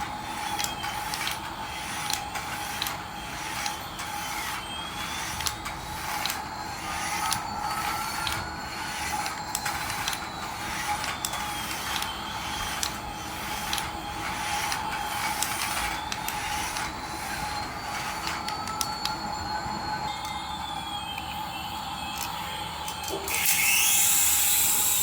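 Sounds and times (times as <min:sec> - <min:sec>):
toy motor and gears whirring: 0:00.0 - 0:25.0.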